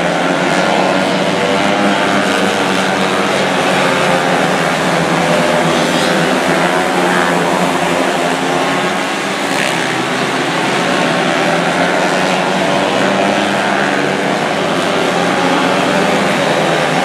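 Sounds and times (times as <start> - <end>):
small racing car engines droning: 0.0 - 17.0.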